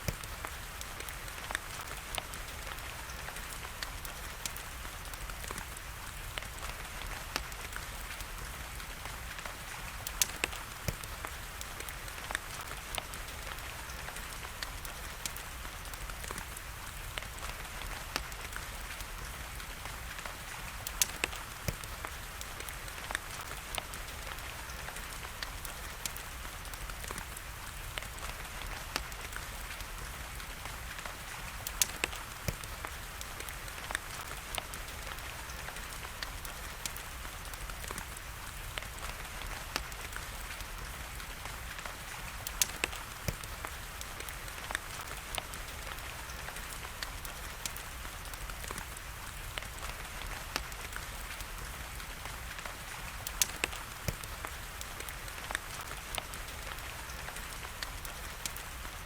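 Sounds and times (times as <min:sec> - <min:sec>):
rain hiss: 0:00.0 - 0:59.0
wood fire crackling: 0:00.0 - 0:59.0.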